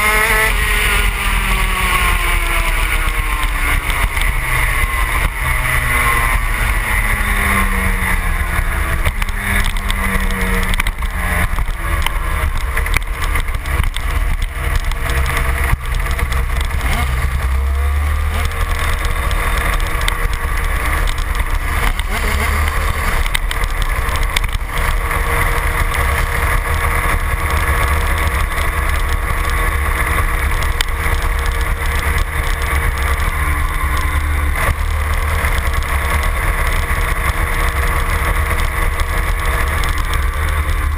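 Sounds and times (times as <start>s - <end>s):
two-stroke racing engine revving: 0.0s - 40.9s.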